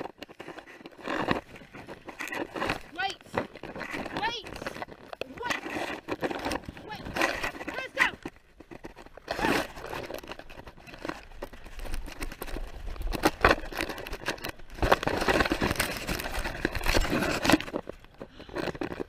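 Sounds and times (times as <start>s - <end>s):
cloth rustling against microphone: 0.0s - 19.0s.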